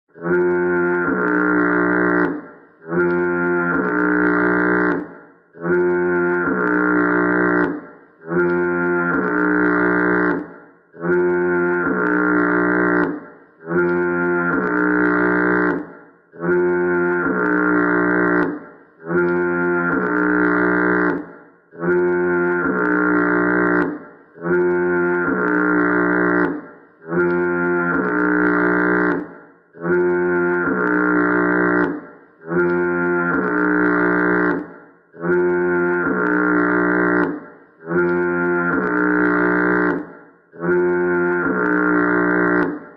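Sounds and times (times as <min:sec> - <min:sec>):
fog horn blasts: 0:00.1 - 0:10.4, 0:11.0 - 0:15.8, 0:16.4 - 0:29.2, 0:29.8 - 0:34.6, 0:35.2 - 0:42.8.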